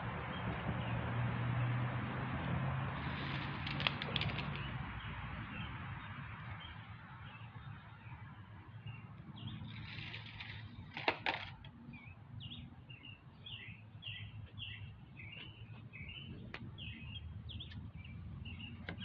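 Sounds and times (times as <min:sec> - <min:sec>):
songbird chirping: 0:03.0 - 0:19.0.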